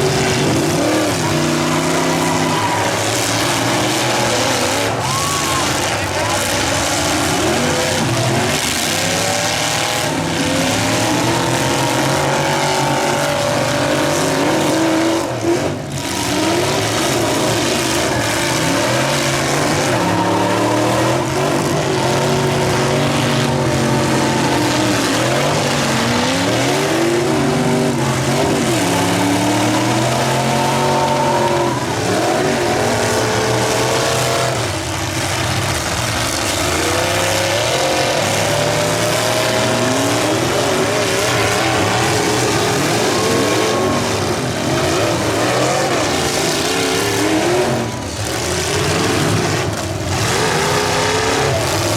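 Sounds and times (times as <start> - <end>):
engines running and revving: 0.0 - 51.9.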